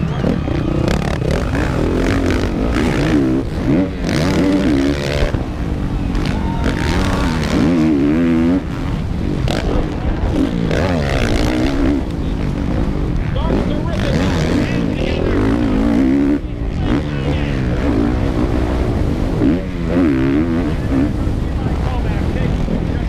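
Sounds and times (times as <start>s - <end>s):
motocross bike engine revving: 0.0s - 23.0s
wind: 0.0s - 23.0s.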